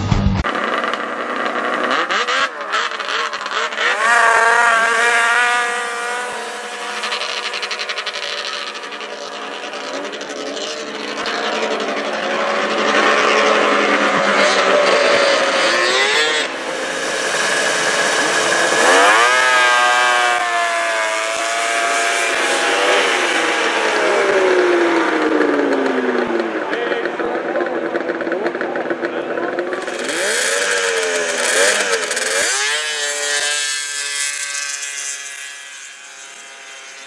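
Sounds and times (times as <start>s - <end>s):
snowmobile engines revving: 0.0s - 37.0s.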